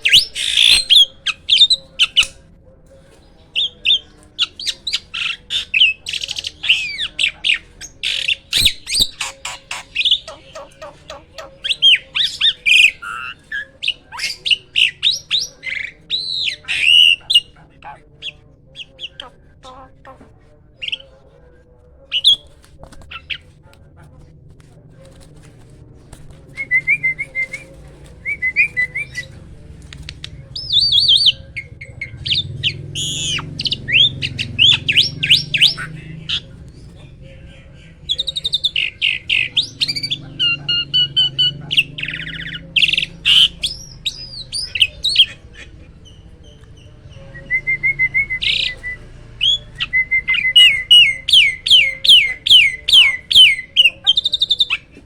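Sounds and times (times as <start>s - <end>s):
starling singing: 0.0s - 24.3s, 25.1s - 55.0s.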